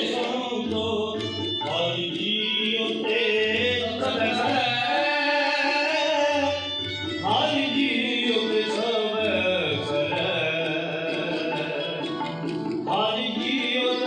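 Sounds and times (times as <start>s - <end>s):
man singing a hymn: 0.0s - 12.2s, 12.9s - 14.0s
harmonium: 0.0s - 14.0s
tabla: 0.0s - 14.0s.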